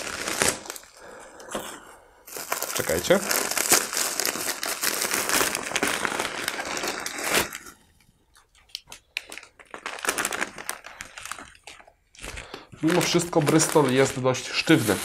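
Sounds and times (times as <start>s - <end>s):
plastic bag crinkling: 0.0s - 15.0s
wrapping crinkling: 0.0s - 15.0s.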